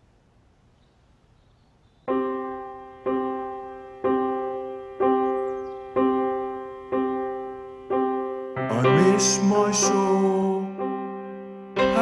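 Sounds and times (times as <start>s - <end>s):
piano chord struck: 2.1s - 12.0s.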